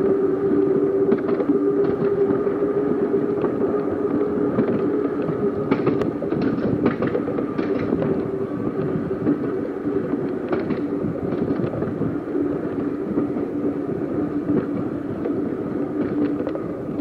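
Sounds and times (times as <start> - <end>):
tram motor hum: 0.0 - 17.0
wheels rumbling on rail: 0.0 - 17.0.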